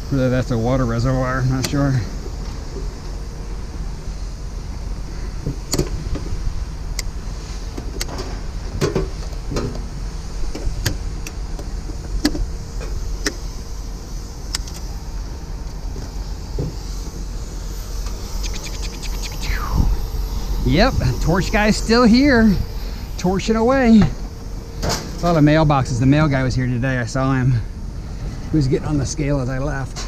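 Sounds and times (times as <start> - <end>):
low rumble and hum: 0.0 - 30.0.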